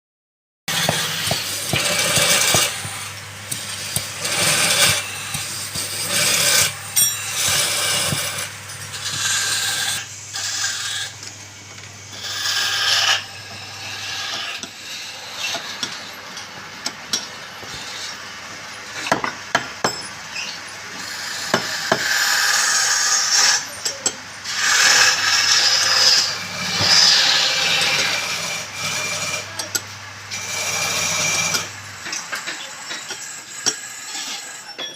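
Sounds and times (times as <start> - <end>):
tools scraping and rasping wood: 0.7 - 18.3, 18.9 - 34.9
low machine hum: 0.7 - 21.4, 23.5 - 34.5.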